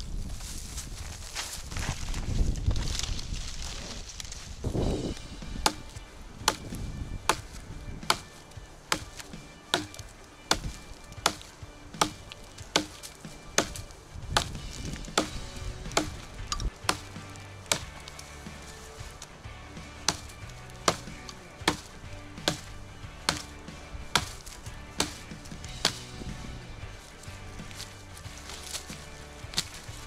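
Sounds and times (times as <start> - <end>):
axe chopping wood: 4.8 - 30.0.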